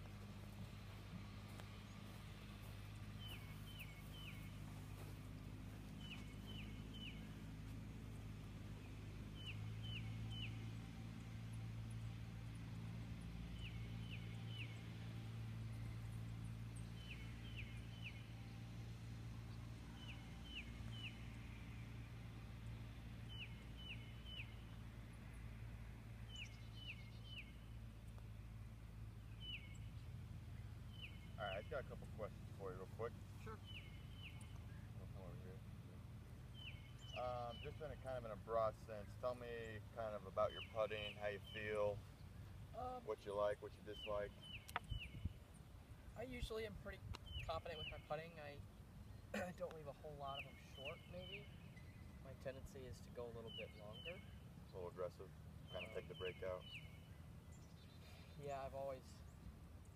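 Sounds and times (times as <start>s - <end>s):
songbird singing: 0.0s - 59.9s
steady low hum: 0.0s - 59.9s.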